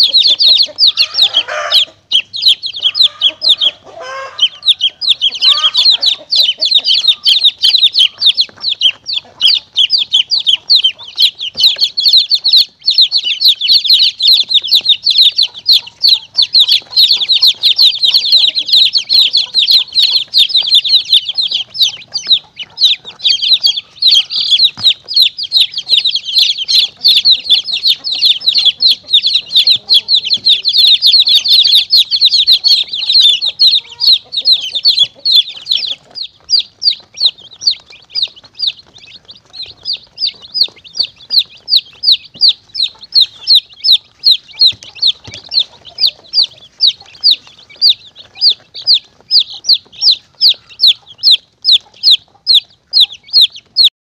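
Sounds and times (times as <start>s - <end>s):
baby chicks peeping: 0.0s - 53.9s.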